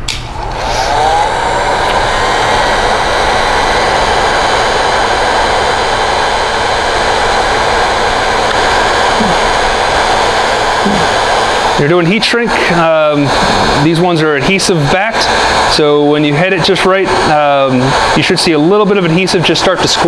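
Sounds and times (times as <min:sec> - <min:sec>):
heat gun blowing air: 0:00.1 - 0:20.0.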